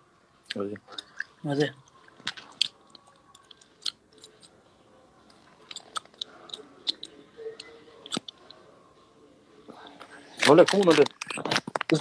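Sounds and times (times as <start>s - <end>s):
mouth and handling noises: 0.4s - 4.6s, 5.2s - 8.7s, 9.7s - 12.0s.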